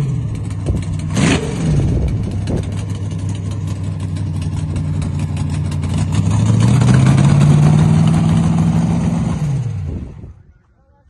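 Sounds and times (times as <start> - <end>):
truck engine revving: 0.0 - 10.3.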